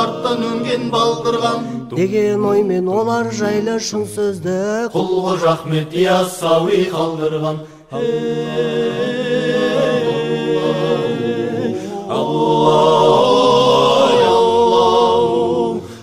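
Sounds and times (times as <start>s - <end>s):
a cappella voices in harmony: 0.0s - 16.0s.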